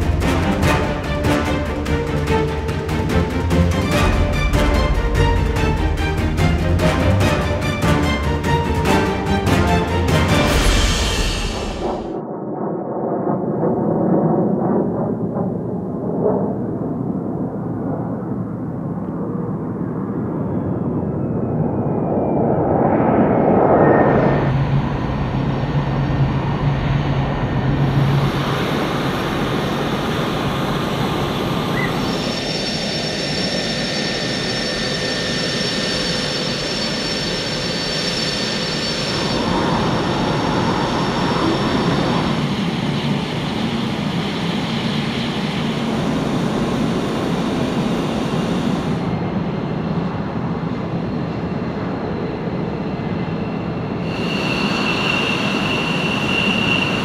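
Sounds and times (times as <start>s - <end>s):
high steady whine: 0.0s - 57.0s
jet engine noise: 0.0s - 57.0s.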